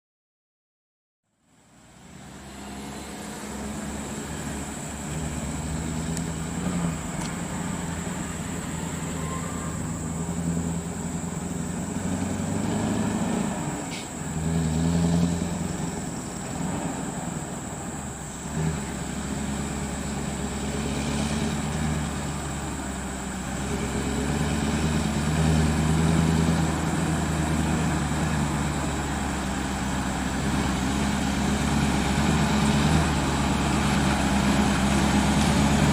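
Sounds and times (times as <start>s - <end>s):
truck diesel engine droning: 1.3s - 35.9s.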